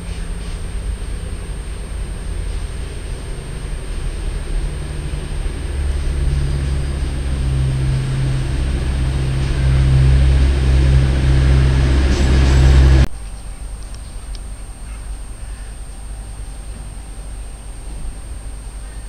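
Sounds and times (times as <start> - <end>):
diesel train engines droning: 0.0 - 19.0
quiet station background: 0.0 - 19.0.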